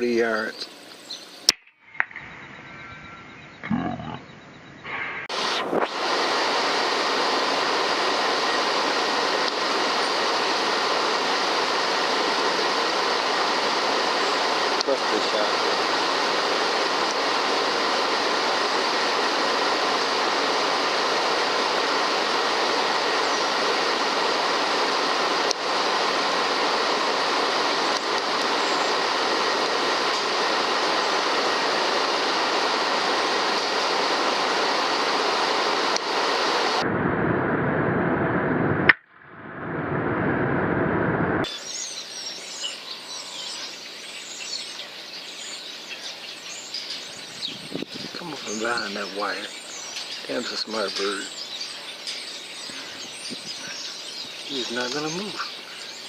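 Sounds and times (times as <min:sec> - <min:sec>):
small birds chirping: 0:00.0 - 0:05.2, 0:07.6 - 0:34.0, 0:41.5 - 0:56.0.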